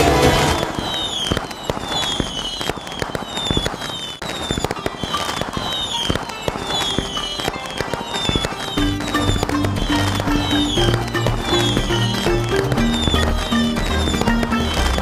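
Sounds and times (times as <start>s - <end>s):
firework falling whistle: 0.0s - 15.0s
fireworks cracking and popping: 0.0s - 15.0s.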